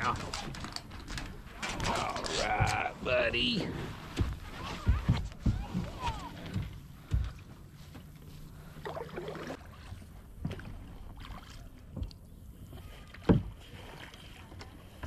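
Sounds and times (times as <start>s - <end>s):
paddle strokes through water: 0.3s - 15.0s.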